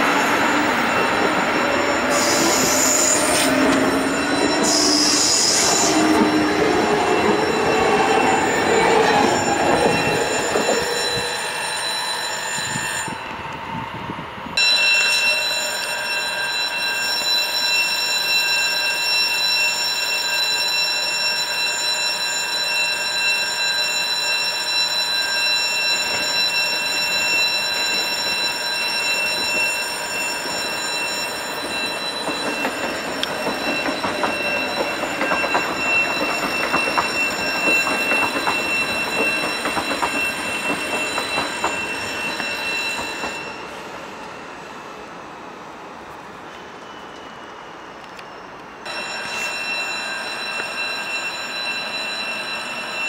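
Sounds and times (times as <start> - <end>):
electric train whine: 0.0 - 53.0.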